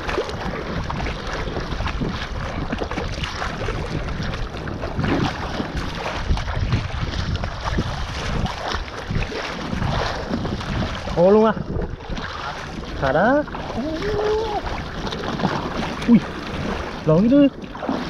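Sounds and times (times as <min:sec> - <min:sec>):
sea water sloshing and splashing: 0:00.0 - 0:18.0
wind buffeting microphone: 0:00.0 - 0:18.0.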